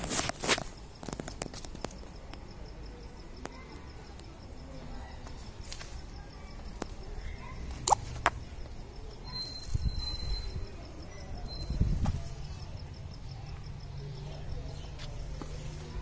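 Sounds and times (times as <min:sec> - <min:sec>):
faint high-pitched ticking: 0:00.0 - 0:16.0.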